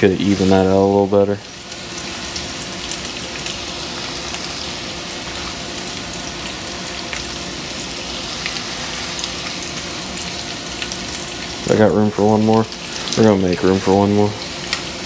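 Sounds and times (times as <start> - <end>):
fish frying in grease: 0.0 - 15.0.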